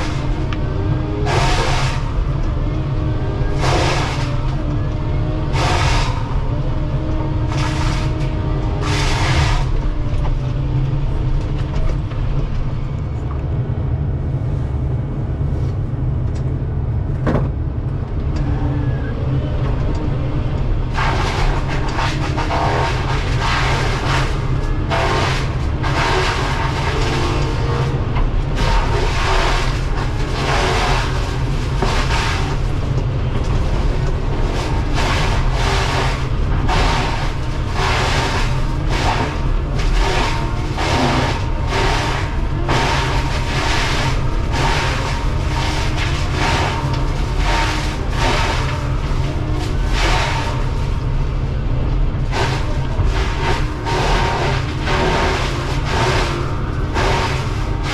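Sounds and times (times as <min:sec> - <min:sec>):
mulcher grinding wood: 0:00.0 - 0:13.4, 0:18.2 - 0:57.9
excavator running: 0:00.0 - 0:57.9.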